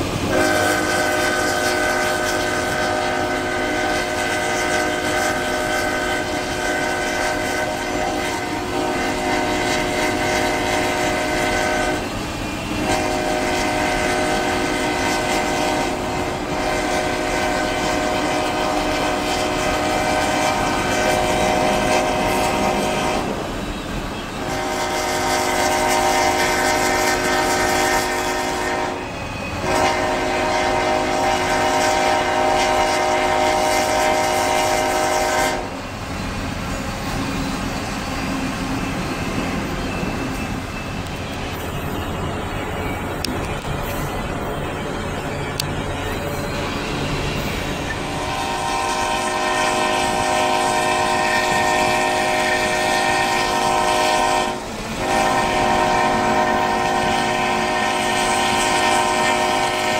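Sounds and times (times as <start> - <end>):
moving train noise: 0.0 - 59.9
locomotive air horn blasts: 0.1 - 36.0, 45.8 - 59.9.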